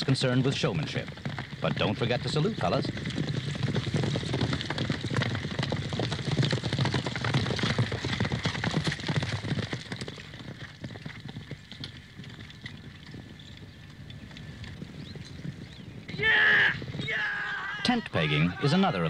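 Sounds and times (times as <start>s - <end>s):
horse hoofbeats clattering: 0.0s - 19.0s.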